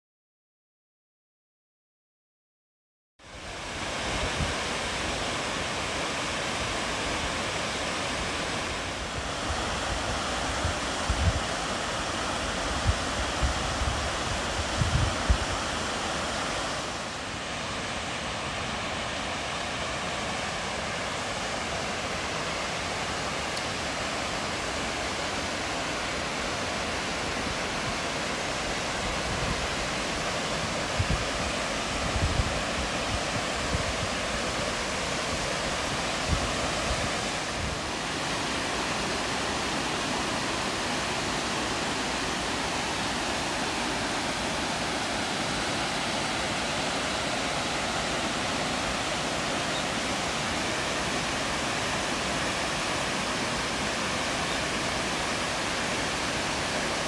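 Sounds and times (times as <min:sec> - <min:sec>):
waterfall roaring: 0:03.2 - 0:57.0.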